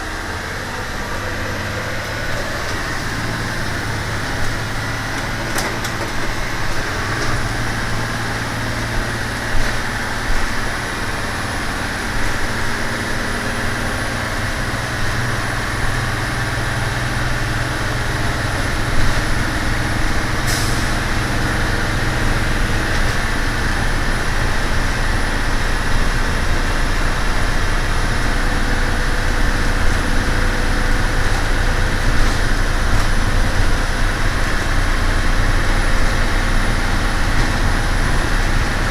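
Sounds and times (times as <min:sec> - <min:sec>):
bus diesel engine droning: 0:00.0 - 0:38.9
road noise: 0:00.0 - 0:38.9.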